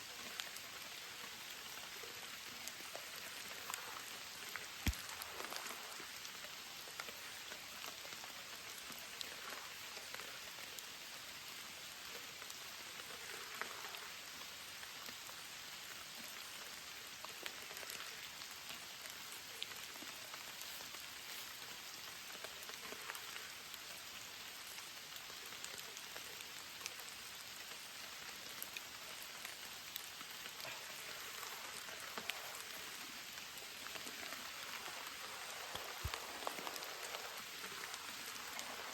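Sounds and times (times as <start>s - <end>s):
rain falling: 0.0s - 38.9s
raindrop ticks: 1.7s - 11.0s, 12.0s - 15.4s, 17.2s - 38.9s.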